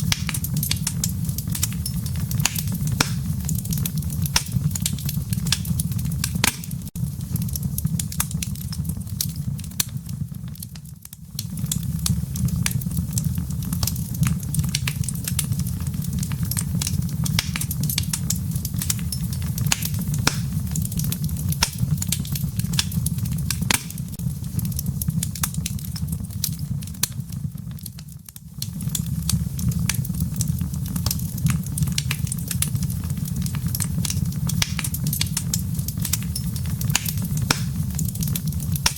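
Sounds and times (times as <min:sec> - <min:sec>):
low rumble of flames: 0:00.0 - 0:38.9
wood fire crackling: 0:00.0 - 0:38.9.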